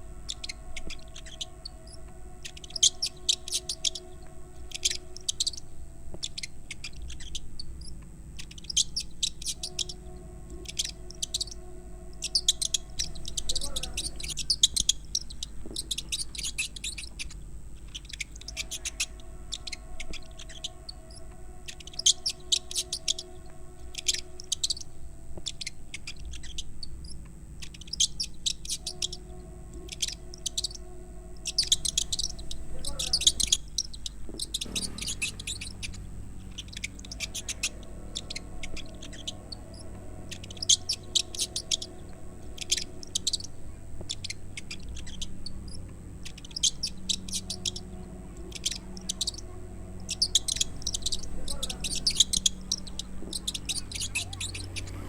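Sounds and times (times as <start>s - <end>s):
low hum: 0.0s - 55.0s
rodent squeaking: 0.2s - 55.0s.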